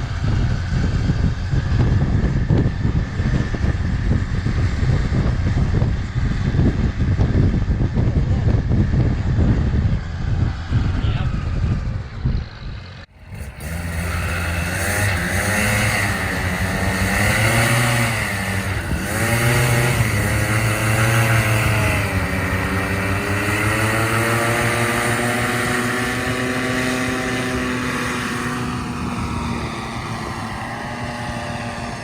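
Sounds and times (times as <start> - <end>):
paramotor engine revving: 0.0 - 32.0.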